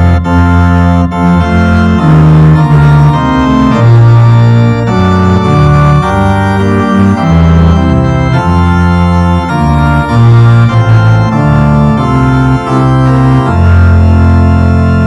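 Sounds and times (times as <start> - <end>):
organ playing sustained chords: 0.0 - 15.0
strong bass line: 0.0 - 15.0.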